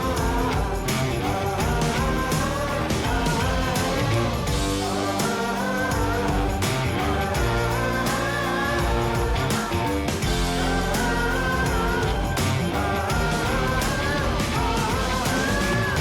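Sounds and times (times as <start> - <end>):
person singing: 0.0 - 16.0
rock music with guitar: 0.0 - 16.0.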